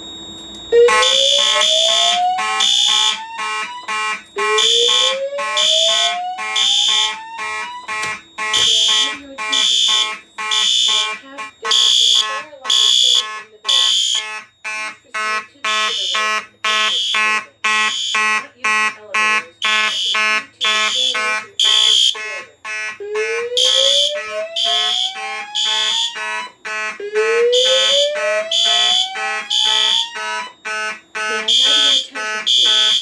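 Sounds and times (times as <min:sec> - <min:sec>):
mechanical horn pulsing rapidly: 0:00.7 - 0:33.0
horn-strobe in groups: 0:00.8 - 0:33.0.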